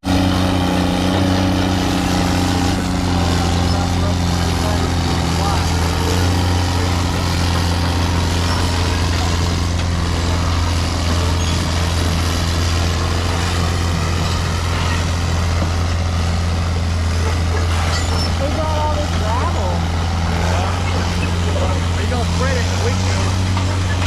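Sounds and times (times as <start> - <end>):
diesel truck engine droning: 0.0 - 24.0
road and wind noise: 0.0 - 24.0.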